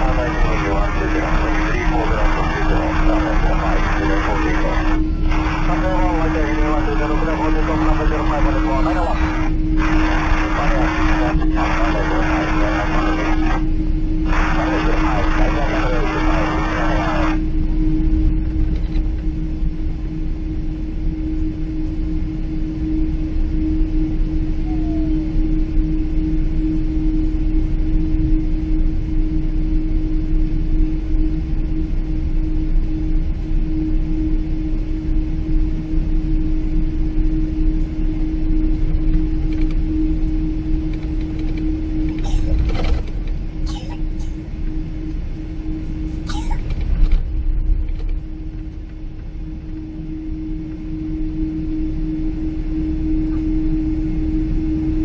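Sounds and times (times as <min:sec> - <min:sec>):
airplane cabin rumble: 0:00.0 - 0:55.0
constant hum: 0:00.0 - 0:55.0.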